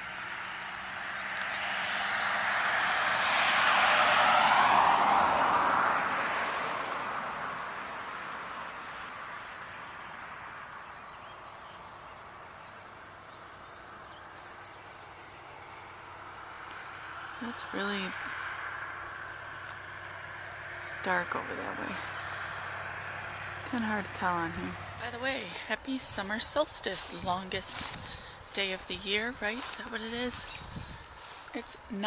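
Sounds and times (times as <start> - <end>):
insect chirps: 0.0 - 32.0
insects trilling: 0.0 - 32.0
vehicle passing by: 0.0 - 32.0.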